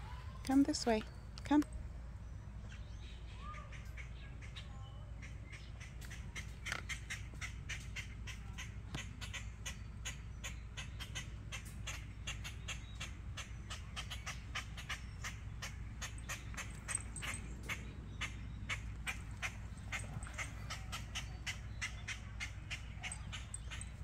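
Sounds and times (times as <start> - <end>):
birds alarm calls: 2.2 - 24.0.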